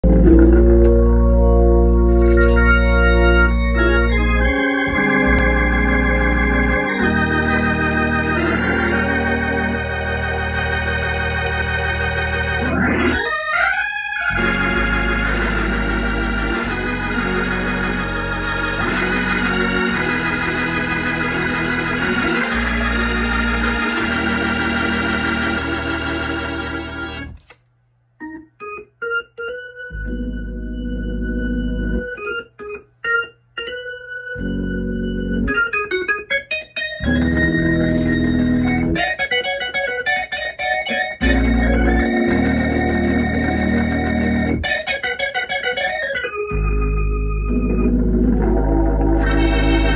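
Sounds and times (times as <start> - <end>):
organ chords through rotating speaker: 0.0 - 27.6, 28.2 - 49.9.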